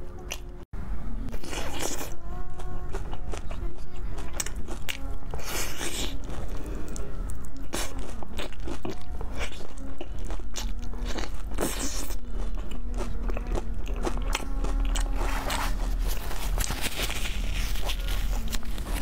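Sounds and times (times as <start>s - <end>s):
crunchy chewing: 1.3s - 19.0s.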